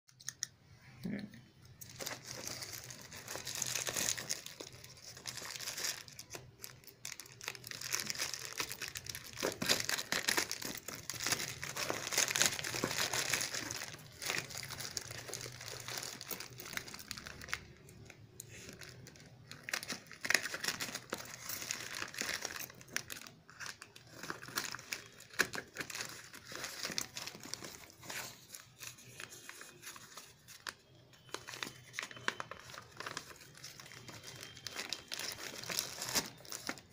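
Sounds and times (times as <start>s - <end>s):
packaging tearing and crinkling: 1.8s - 17.8s, 18.7s - 36.9s.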